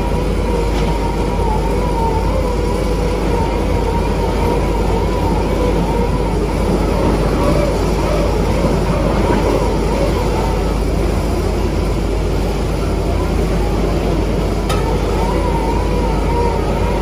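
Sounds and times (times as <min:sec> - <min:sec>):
drilling rig engine running: 0:00.0 - 0:17.0.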